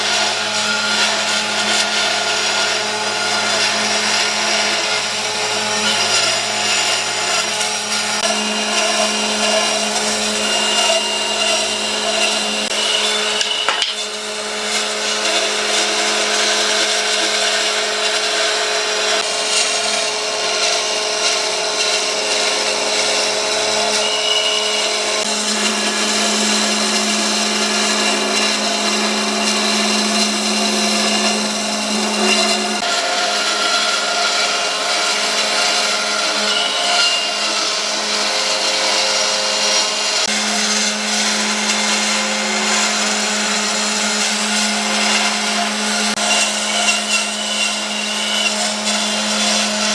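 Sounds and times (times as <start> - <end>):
power tool on hardwood: 0.0 - 49.9.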